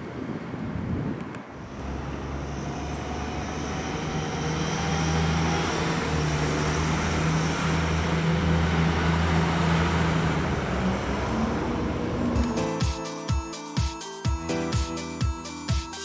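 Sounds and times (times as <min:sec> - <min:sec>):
diesel train engine drone: 0:00.0 - 0:13.2.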